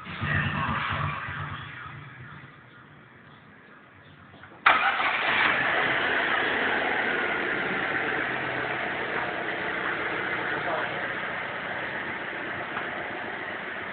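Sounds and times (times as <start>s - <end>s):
car engine starting and idling: 0.0s - 13.9s.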